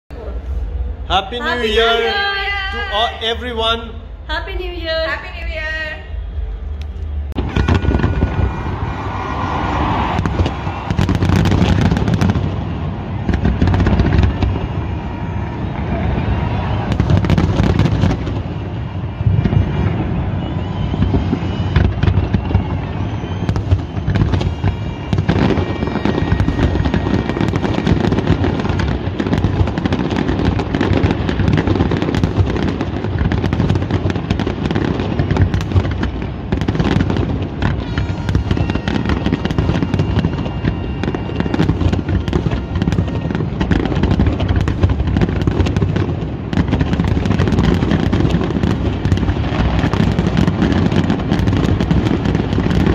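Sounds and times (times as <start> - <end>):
fireworks booming and crackling: 4.4 - 52.9.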